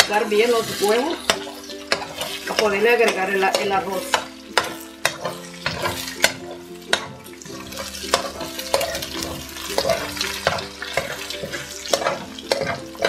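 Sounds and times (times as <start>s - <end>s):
eggs sizzling in oil: 0.0s - 13.0s
metal spoon knocking frying pan: 0.8s - 13.0s.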